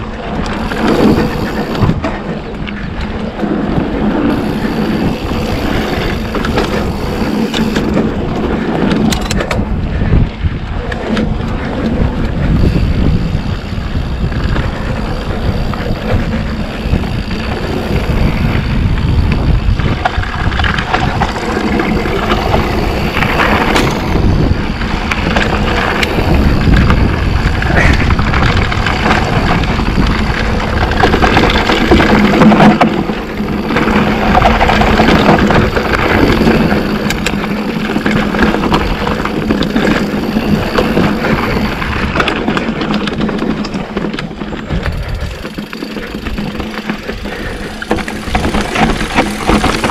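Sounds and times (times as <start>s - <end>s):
bike rattling: 0.0s - 49.9s
sharp bike clatters: 0.0s - 49.9s
wind buffeting microphone: 0.0s - 49.9s.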